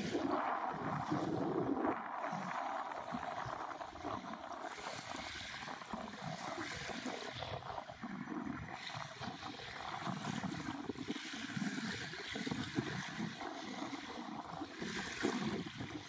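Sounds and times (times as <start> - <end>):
waves washing on a sandy beach: 0.0 - 16.0.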